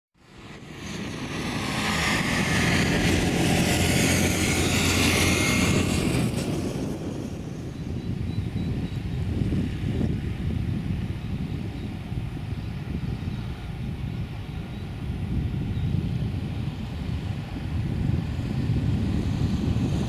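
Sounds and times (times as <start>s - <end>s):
jet engines whining: 0.2s - 20.0s.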